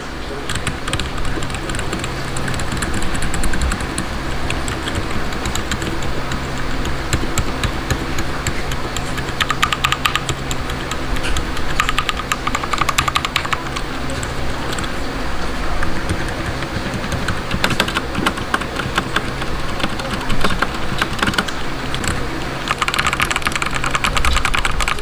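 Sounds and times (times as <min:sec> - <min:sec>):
steady low hum: 0:00.0 - 0:25.0
mechanical keyboard key clicks: 0:00.5 - 0:14.9, 0:15.8 - 0:25.0.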